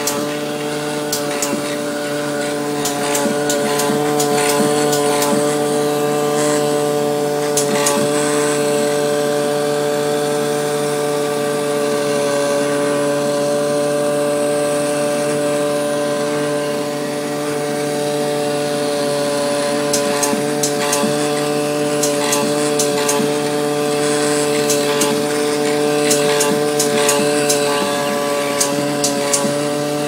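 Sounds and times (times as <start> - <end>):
cutting machine humming: 0.0 - 30.0.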